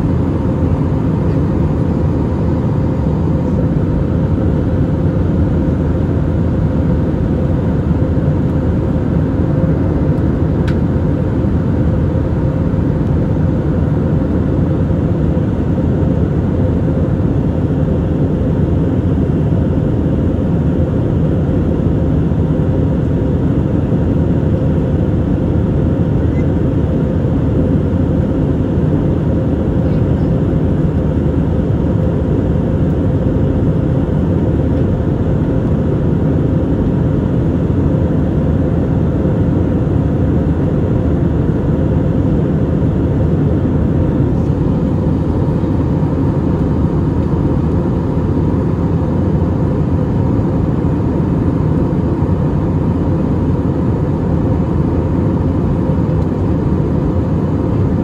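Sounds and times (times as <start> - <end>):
faint steady hum: 0.0 - 58.0
jet engines and rushing air: 0.0 - 58.0.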